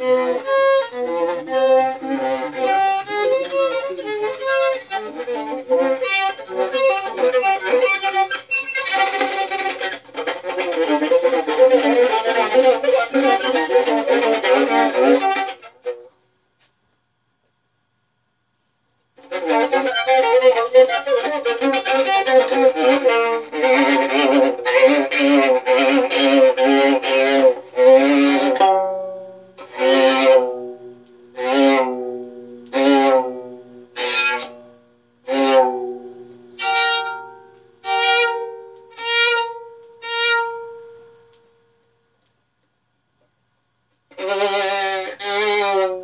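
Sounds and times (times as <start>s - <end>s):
bowed violin notes: 0.0s - 16.2s, 19.2s - 41.9s, 44.1s - 46.0s.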